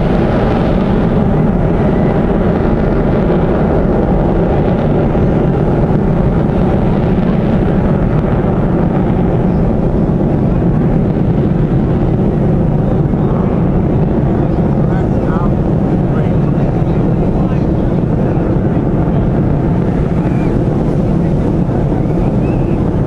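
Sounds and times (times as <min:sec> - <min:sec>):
aircraft engines rumbling: 0:00.0 - 0:23.0.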